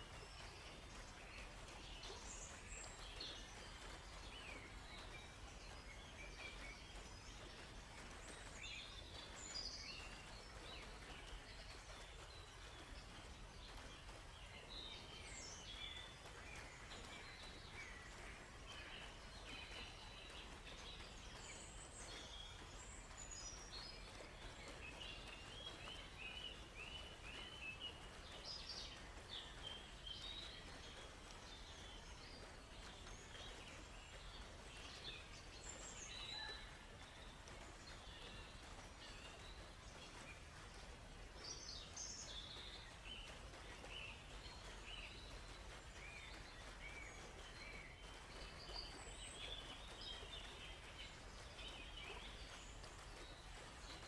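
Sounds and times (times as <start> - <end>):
low background hiss: 0.0 - 54.0.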